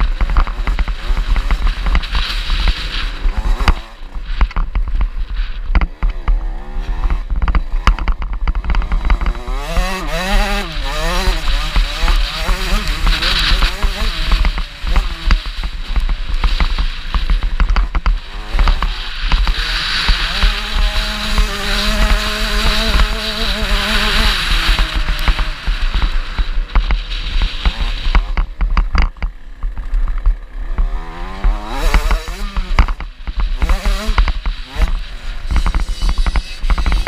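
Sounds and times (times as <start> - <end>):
two-stroke motocross engine revving: 0.0 - 4.7, 5.7 - 37.0
wind rumble on microphone: 0.0 - 37.0.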